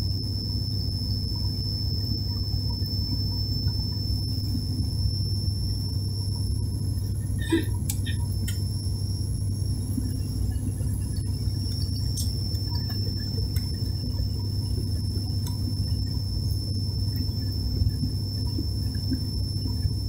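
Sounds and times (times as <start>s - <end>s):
high-pitched whine: 0.0s - 20.0s
propeller engine drone: 0.0s - 20.0s.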